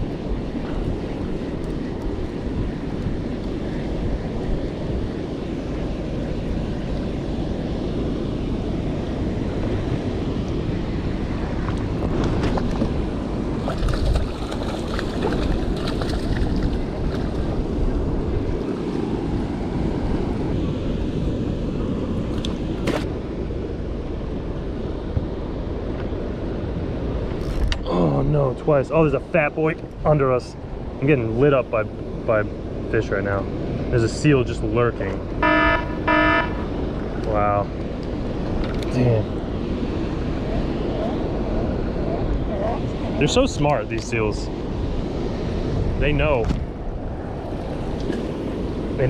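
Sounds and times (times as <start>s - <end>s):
wind buffeting microphone: 0.0s - 28.8s, 29.6s - 49.0s
sea surf: 0.0s - 49.0s.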